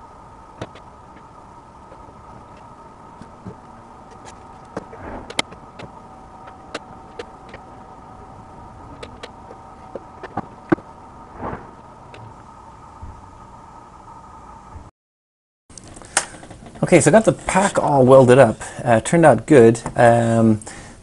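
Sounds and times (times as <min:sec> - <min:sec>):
steady hum: 0:00.0 - 0:14.9, 0:15.7 - 0:21.0.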